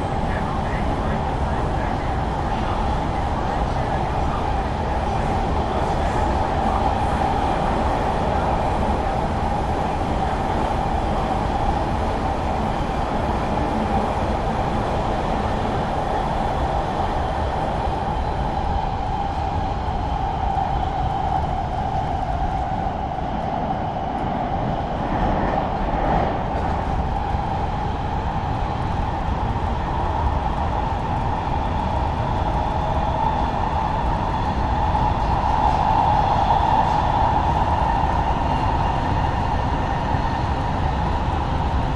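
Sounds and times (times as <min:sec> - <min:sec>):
train rail noise drone: 0:00.0 - 0:41.9.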